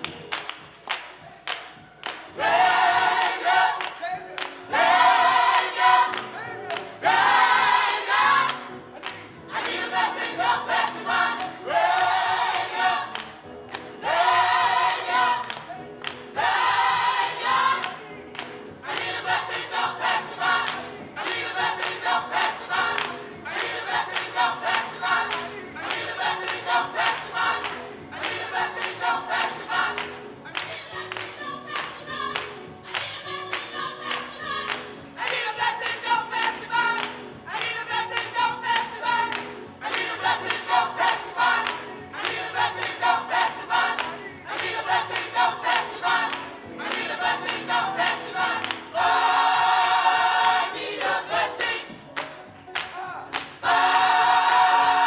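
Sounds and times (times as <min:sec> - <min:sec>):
choir singing gospel song: 0:00.0 - 0:55.0.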